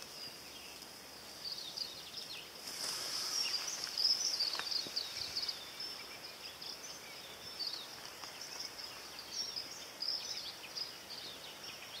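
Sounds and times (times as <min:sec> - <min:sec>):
faint steady hiss: 0:00.0 - 0:12.0
small birds chirping: 0:00.0 - 0:12.0.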